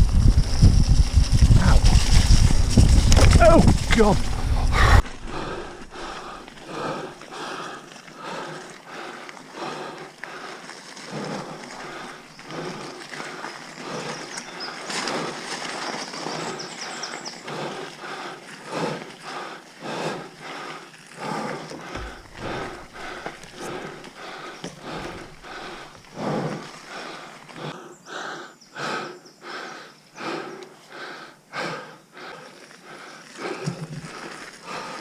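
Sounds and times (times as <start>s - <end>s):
mountain bike rattling on trail: 0.0s - 27.6s, 32.6s - 35.0s
rider panting heavily: 0.1s - 35.0s.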